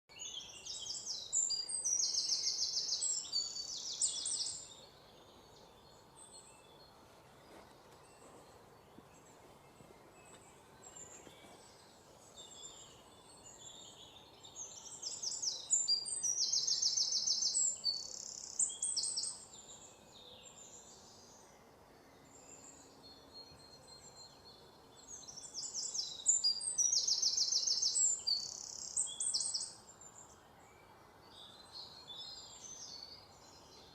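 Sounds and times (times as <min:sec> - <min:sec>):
bird song with rapid trills: 0:00.1 - 0:33.9
faint bird chirps: 0:00.1 - 0:33.9.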